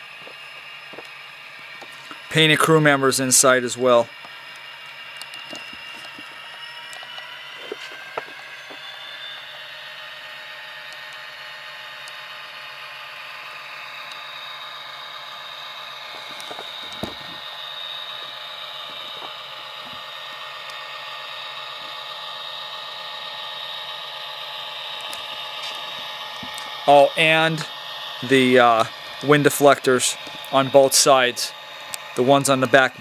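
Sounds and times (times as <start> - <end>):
diesel engine sound from small speaker: 0.0 - 33.0
model motor and gears whirring: 0.0 - 33.0.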